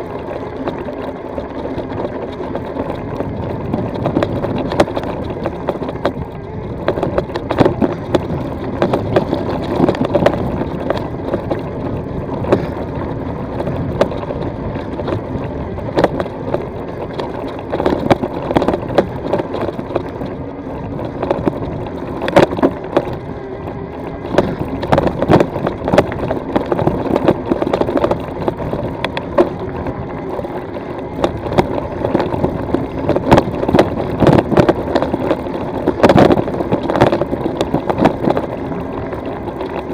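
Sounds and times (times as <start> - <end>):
bike knocking on rocks: 0.0 - 39.9
bike rattling: 0.0 - 39.9.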